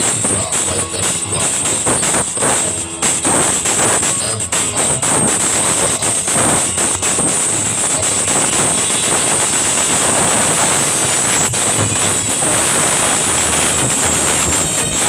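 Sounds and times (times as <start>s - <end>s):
loud amplified music: 0.0s - 15.0s.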